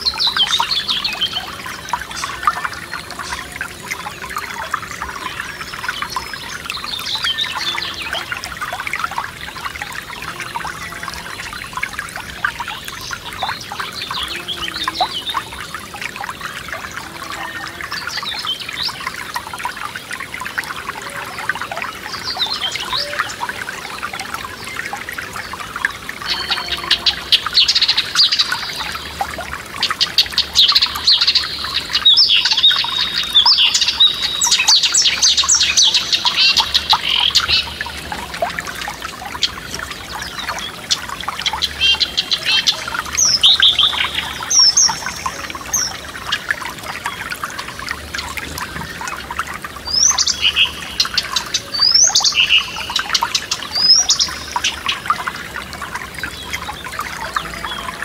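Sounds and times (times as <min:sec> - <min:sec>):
songbirds singing: 0:00.0 - 0:58.0
stream trickling over stones: 0:00.0 - 0:58.0.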